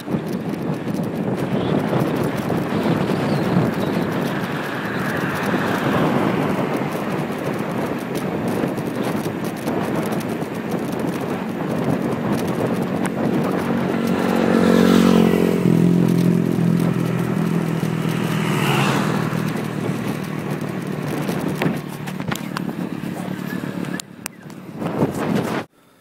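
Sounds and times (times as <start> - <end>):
bicycle rattles and knocks: 0.0 - 25.7
wind and road noise: 0.0 - 26.0
vehicle engine passing: 0.5 - 25.6.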